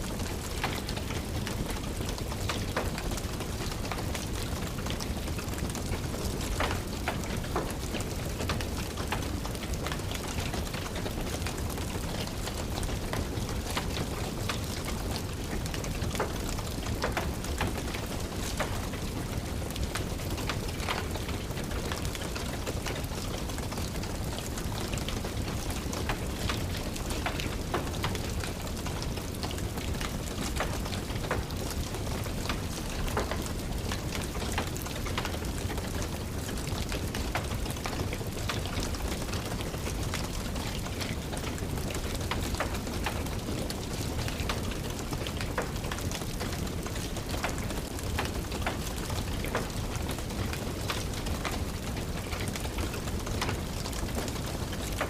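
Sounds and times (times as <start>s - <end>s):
steady rain hiss: 0.0s - 55.0s
wood fire crackling and popping: 0.1s - 55.0s.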